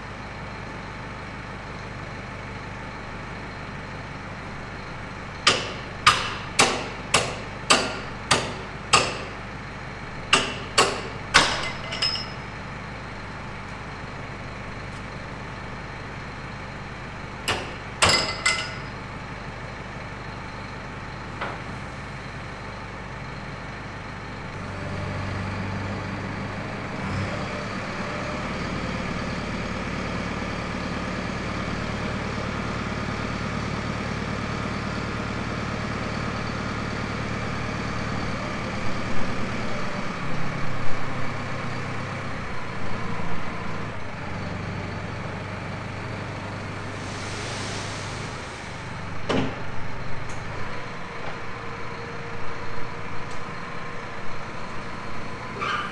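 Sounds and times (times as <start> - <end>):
tractor engine: 0.0 - 55.9.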